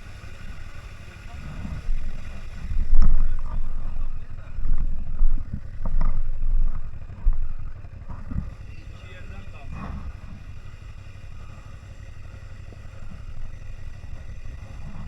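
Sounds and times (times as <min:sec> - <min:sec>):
off-road vehicle engine rumble: 0:00.0 - 0:15.0
wind buffeting microphone: 0:00.0 - 0:15.0.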